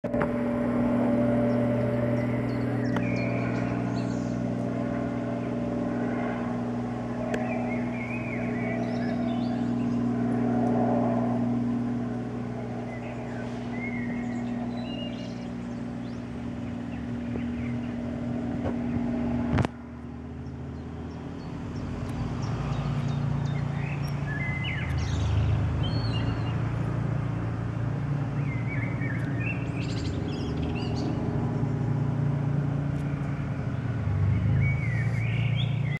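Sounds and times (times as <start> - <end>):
helicopter rotor and engine droning: 0.0 - 36.0
birds chirping: 0.1 - 36.0.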